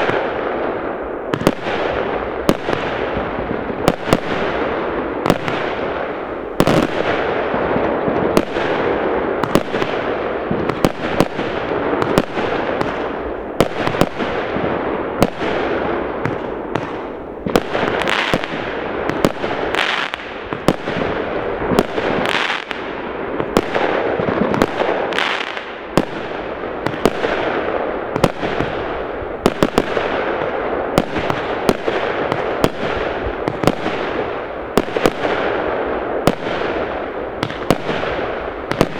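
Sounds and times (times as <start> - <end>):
crackle of distant explosions: 0.0 - 38.9
fireworks bangs: 0.0 - 38.9.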